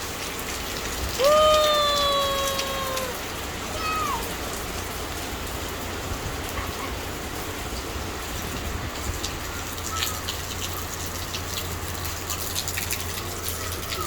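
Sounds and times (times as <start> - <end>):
drips pattering on surfaces: 0.0 - 14.0
steady rain falling: 0.0 - 14.0.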